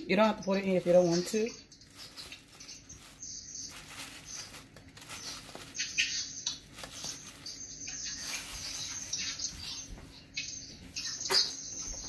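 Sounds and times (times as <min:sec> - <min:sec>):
plastic bag rustling: 0:00.1 - 0:12.0.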